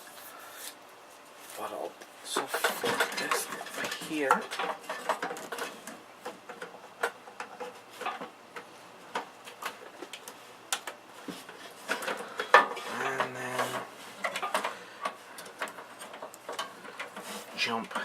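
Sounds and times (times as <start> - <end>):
cables and plastic connectors rattling: 2.3 - 18.0.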